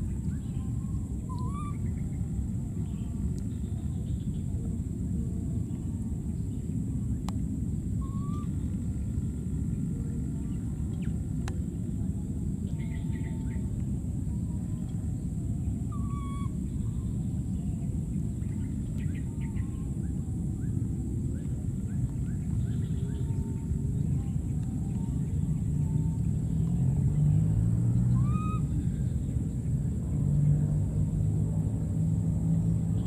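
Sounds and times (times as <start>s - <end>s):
faint chirping calls: 0.0s - 4.6s, 8.0s - 11.3s, 12.1s - 31.8s
faint high drone: 0.0s - 33.0s
low outdoor rumble: 0.0s - 33.0s.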